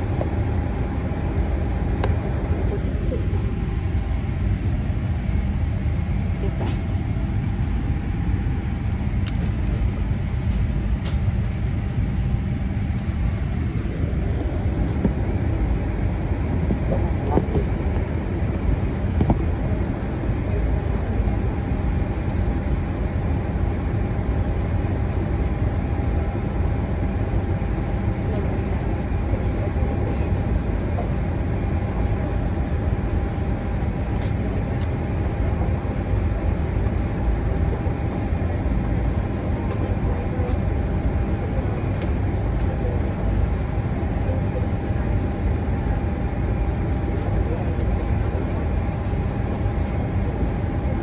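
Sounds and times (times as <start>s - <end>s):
airliner cabin rumble: 0.0s - 51.0s
faint steady whine: 0.0s - 51.0s.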